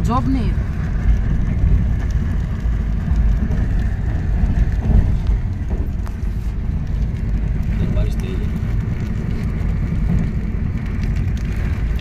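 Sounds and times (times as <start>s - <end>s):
moving train rumble: 0.0s - 12.0s.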